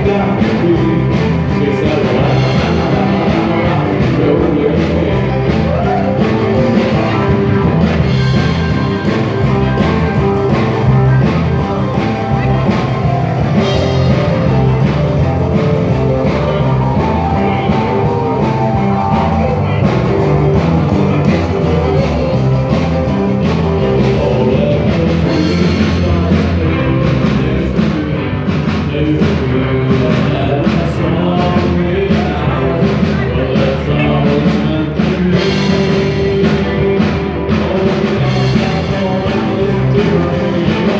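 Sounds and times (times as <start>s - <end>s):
person singing: 0.0s - 40.9s
rock band playing: 0.0s - 40.9s.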